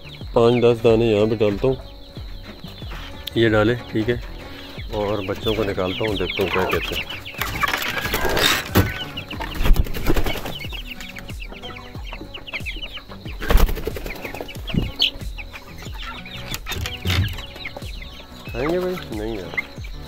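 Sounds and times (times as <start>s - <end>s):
chicks peeping and clucking: 0.0s - 20.0s
knocks and thumps in coop: 0.2s - 20.0s.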